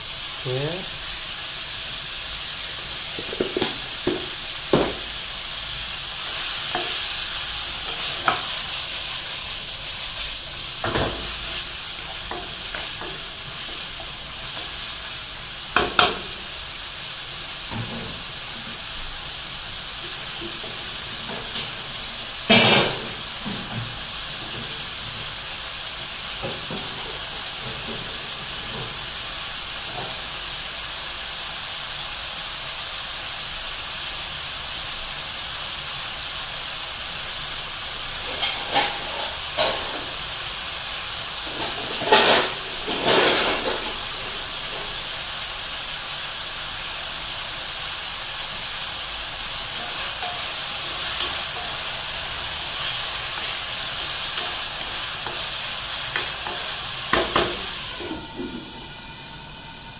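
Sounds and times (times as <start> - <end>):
meat sizzling in a wok: 0.0 - 59.9.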